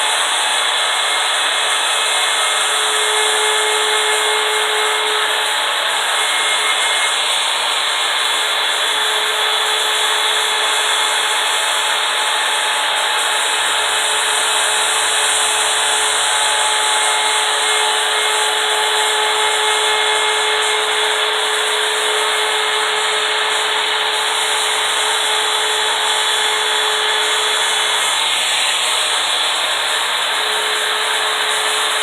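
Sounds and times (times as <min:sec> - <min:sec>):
router cutting into wood: 0:00.0 - 0:32.0.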